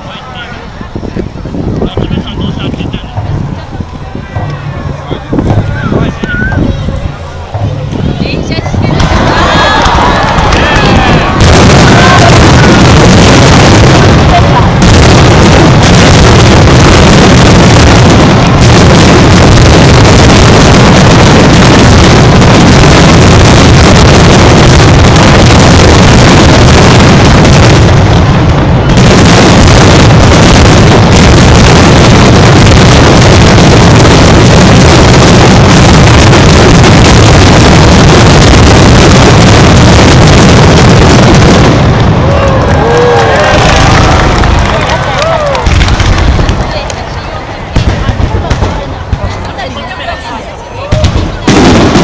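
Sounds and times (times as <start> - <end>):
rapid fireworks barrage: 0.0 - 52.0.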